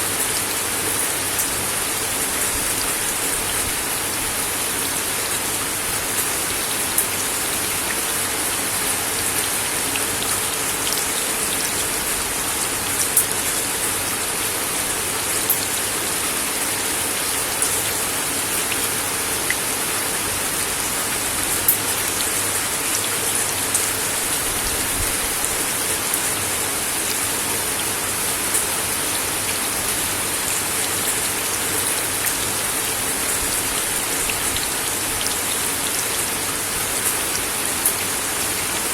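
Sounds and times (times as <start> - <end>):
rain on a wooden deck: 0.0 - 38.9.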